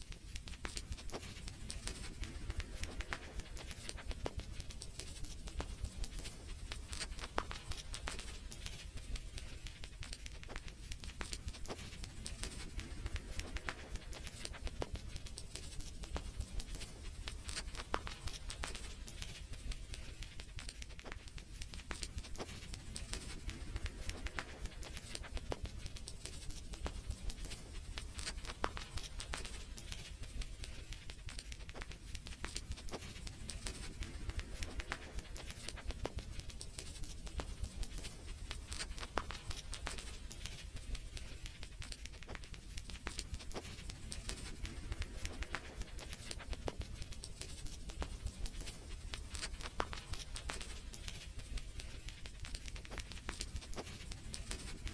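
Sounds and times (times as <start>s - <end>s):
sharp pops and snaps: 0.0s - 54.9s
wood fire crackling: 0.1s - 54.9s.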